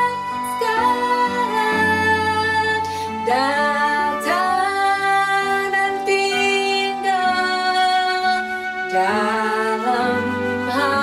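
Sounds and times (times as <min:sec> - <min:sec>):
instrumental accompaniment: 0:00.0 - 0:11.0
woman singing: 0:00.0 - 0:11.0.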